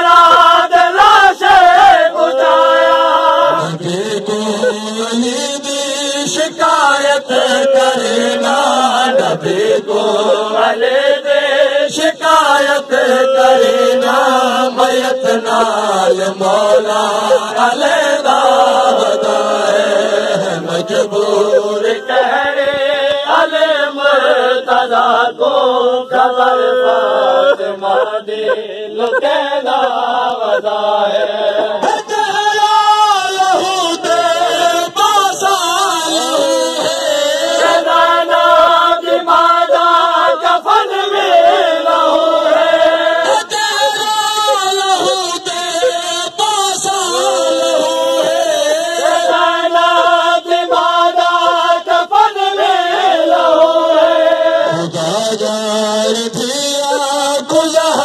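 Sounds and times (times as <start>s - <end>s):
man chanting into a microphone: 0.0s - 58.0s.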